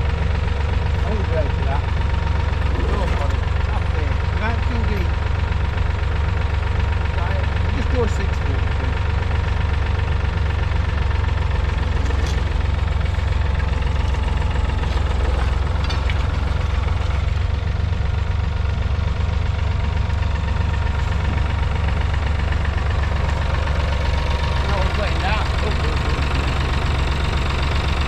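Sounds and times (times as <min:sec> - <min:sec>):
diesel tractor engine rumbling: 0:00.0 - 0:28.0.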